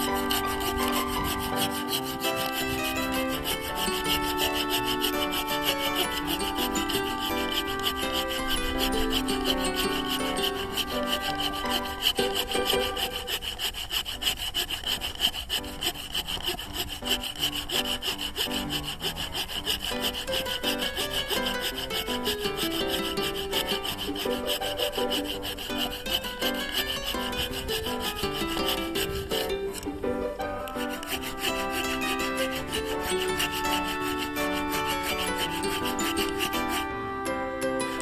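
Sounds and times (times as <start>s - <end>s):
background music: 0.0s - 14.2s, 15.3s - 38.0s
handsaw cutting wood: 0.0s - 38.0s.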